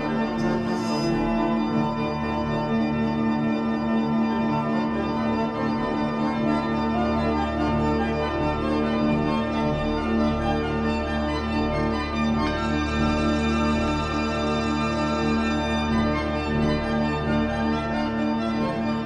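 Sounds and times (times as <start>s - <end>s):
organ chords: 0.0s - 19.0s.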